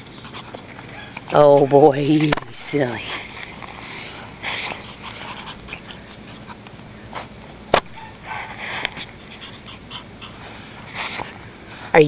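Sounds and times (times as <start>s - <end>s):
puppies moving about: 0.1s - 11.4s.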